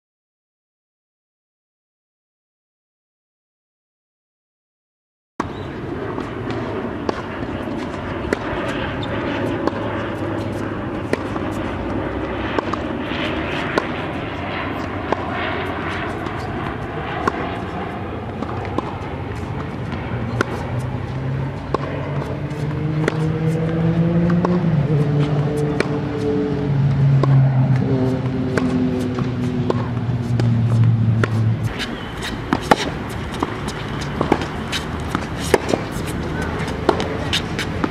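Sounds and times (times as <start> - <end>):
tennis balls struck by rackets: 5.4 - 37.9.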